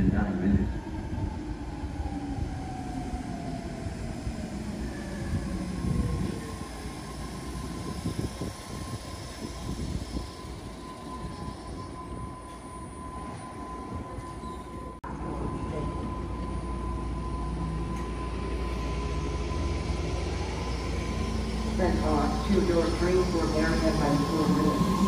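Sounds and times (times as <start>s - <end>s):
electric train rumble: 0.0s - 25.0s.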